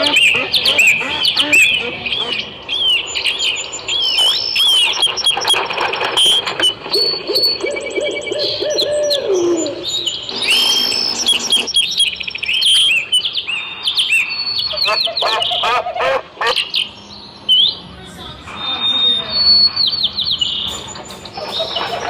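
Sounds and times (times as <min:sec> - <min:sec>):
bird chirps through amplifiers: 0:00.0 - 0:22.0
low pulsing call: 0:00.0 - 0:22.0.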